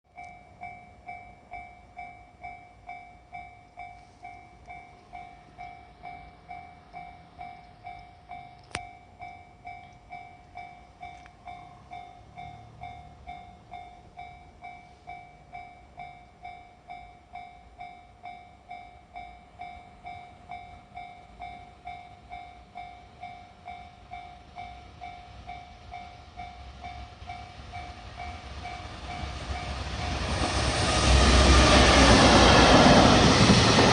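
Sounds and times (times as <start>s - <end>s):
level crossing warning bell: 0.1s - 30.5s
train rumble: 0.1s - 33.9s.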